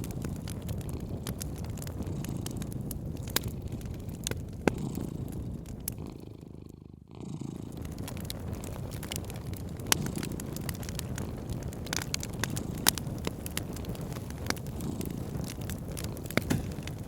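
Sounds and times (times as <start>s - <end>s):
cat purring: 0.0s - 17.0s
wood fire crackling and popping: 0.0s - 17.0s.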